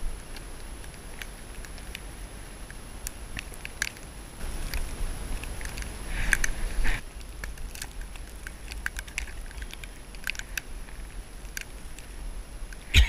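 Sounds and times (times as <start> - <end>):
low wind rumble on microphone: 0.0 - 13.0
snow ticking on jacket: 0.0 - 13.0.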